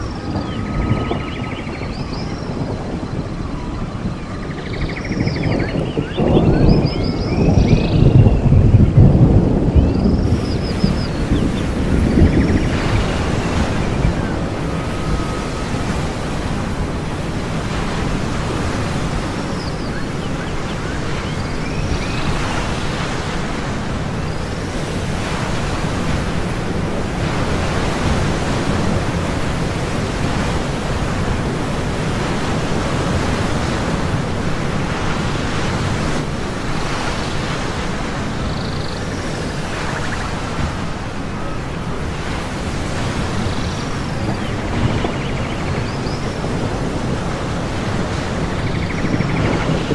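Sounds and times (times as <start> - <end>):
ocean surf: 0.0 - 5.1, 8.5 - 49.9
wind: 0.0 - 49.9.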